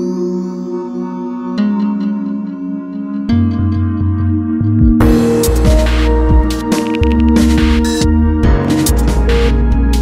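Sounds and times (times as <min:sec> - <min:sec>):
ambient electronic music: 0:00.0 - 0:10.0.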